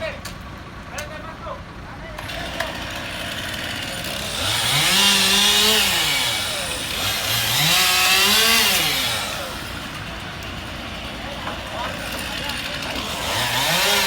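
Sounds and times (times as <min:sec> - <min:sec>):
chainsaw revving: 0:02.2 - 0:14.0.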